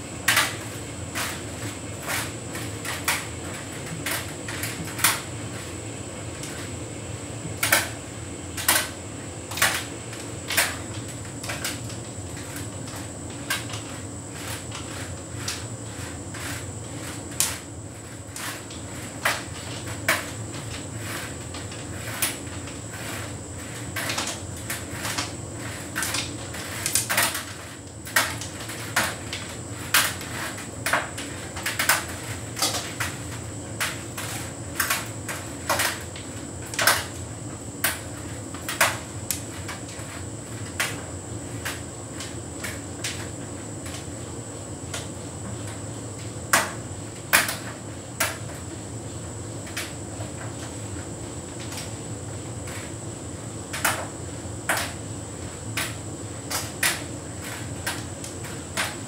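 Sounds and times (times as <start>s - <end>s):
tumble dryer humming and whining: 0.0s - 59.0s.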